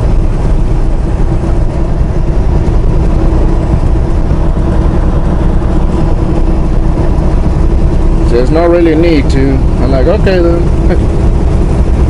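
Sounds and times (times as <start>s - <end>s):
road rumble: 0.0s - 12.0s
truck diesel engine droning: 0.0s - 12.0s.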